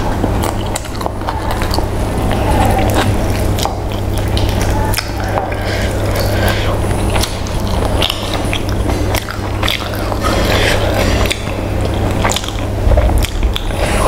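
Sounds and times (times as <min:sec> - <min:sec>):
chewing with wet smacks: 0:00.0 - 0:14.0
steady low hum: 0:00.0 - 0:14.0.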